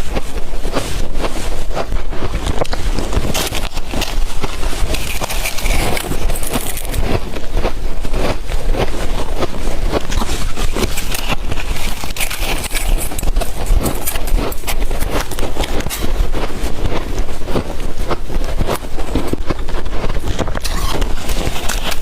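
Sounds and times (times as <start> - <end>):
ice crunching while chewed: 0.0 - 22.0.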